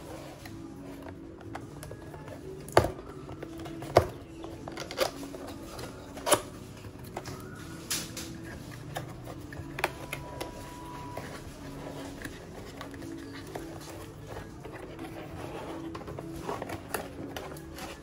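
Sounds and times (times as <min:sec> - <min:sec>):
cardboard rustling: 0:00.0 - 0:18.0.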